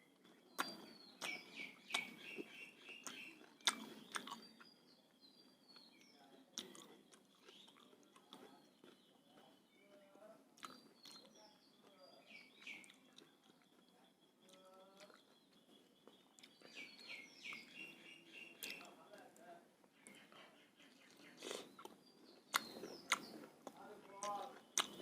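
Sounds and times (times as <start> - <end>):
faint chewing and mouth clicks: 0.0 - 18.0, 18.6 - 25.0
birds chirping: 0.0 - 25.0.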